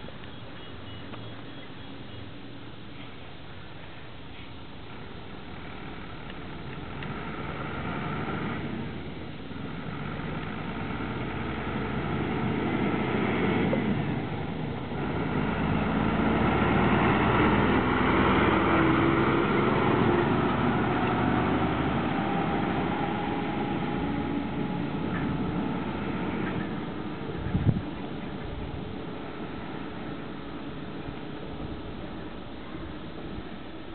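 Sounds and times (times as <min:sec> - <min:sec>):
fire engine diesel engine passing: 0:04.8 - 0:32.5.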